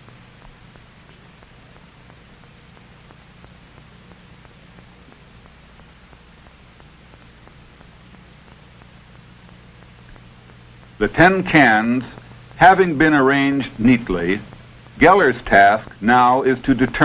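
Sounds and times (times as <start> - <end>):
faint crackle: 0.0 - 17.0
film soundtrack hiss: 0.0 - 17.0
low mains hum: 0.0 - 17.0.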